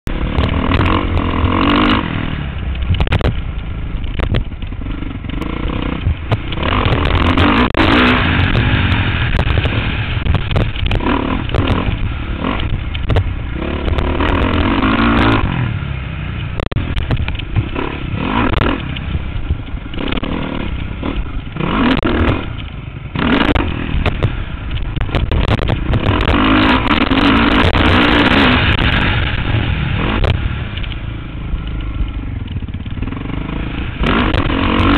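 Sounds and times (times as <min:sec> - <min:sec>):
sharp clicks and clatter: 0:00.0 - 0:15.5, 0:16.4 - 0:34.9
motocross bike engine revving: 0:00.1 - 0:34.9.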